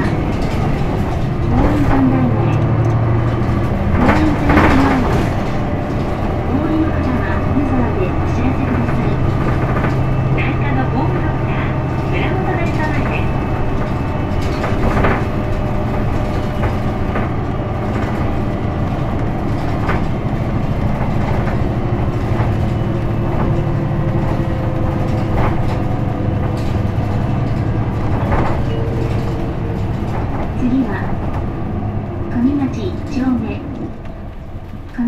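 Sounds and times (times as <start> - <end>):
body rattles and knocks: 0.0 - 35.0
bus diesel engine drone: 0.0 - 35.0.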